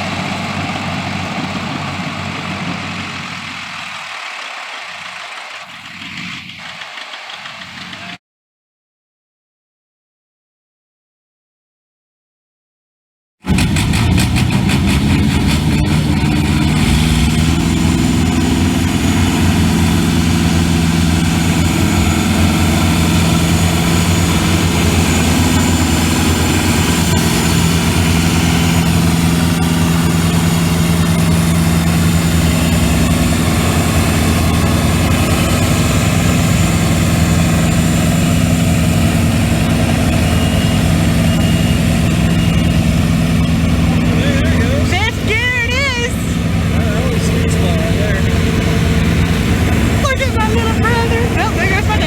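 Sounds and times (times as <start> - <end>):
tractor engine running: 0.0 - 8.2, 13.5 - 52.0.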